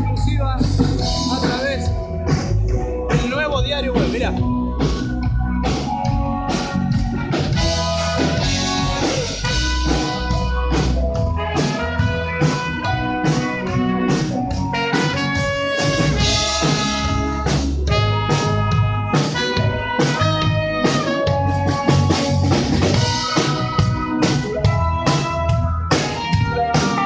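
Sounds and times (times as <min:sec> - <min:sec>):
bass guitar: 0:00.0 - 0:27.0
drum kit beat: 0:00.0 - 0:27.0
guitar: 0:00.0 - 0:27.0.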